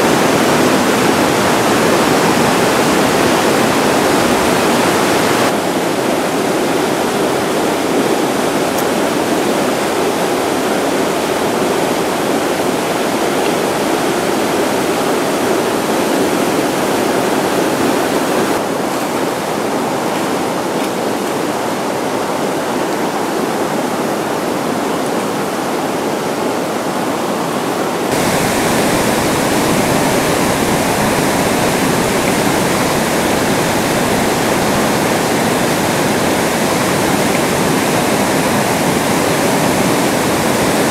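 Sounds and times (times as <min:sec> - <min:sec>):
river rapids rushing over rocks: 0:00.0 - 0:40.9.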